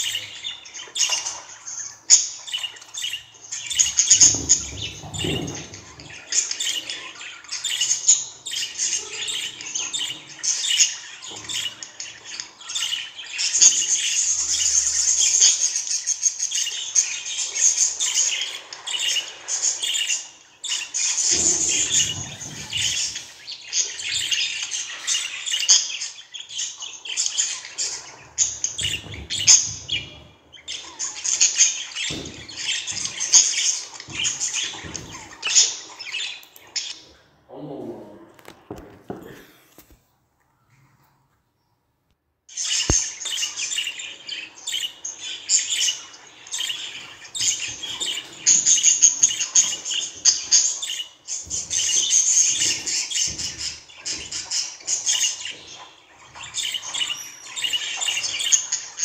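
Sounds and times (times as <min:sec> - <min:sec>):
budgerigars chattering: 0:00.0 - 0:37.1, 0:42.6 - 0:59.0.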